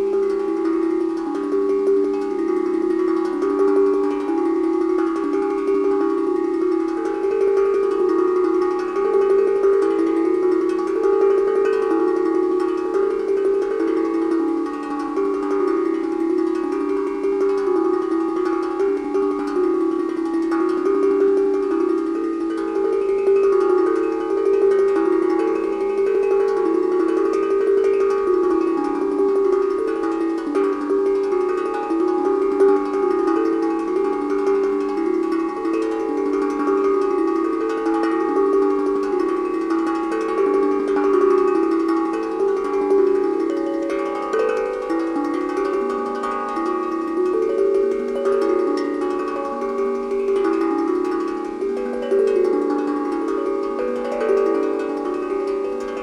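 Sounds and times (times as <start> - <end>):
steel tongue drum melody: 0.0 - 56.0.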